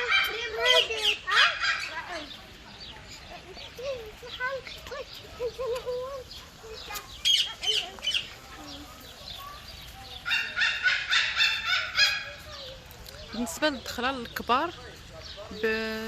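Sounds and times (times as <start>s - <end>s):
birds calling: 0.0s - 16.0s
rapid repeated bird calls: 0.0s - 16.0s.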